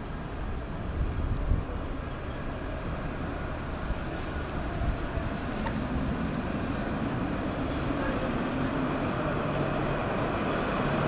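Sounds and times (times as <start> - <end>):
low rumble of vehicles: 0.0 - 11.0
street noise: 0.0 - 11.0.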